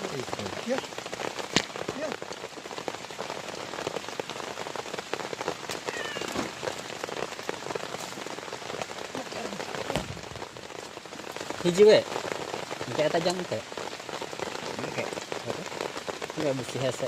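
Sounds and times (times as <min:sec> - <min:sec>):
heavy rain falling: 0:00.0 - 0:17.0
raindrops striking a surface: 0:00.0 - 0:17.0.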